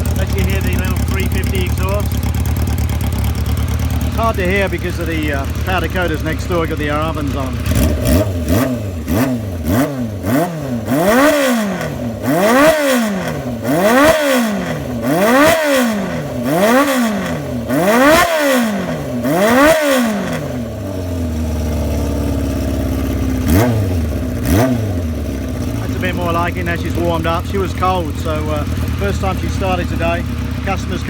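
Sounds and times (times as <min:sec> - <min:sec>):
motorcycle engine idling: 0:00.0 - 0:31.0
motorcycle engine revving: 0:00.0 - 0:31.0.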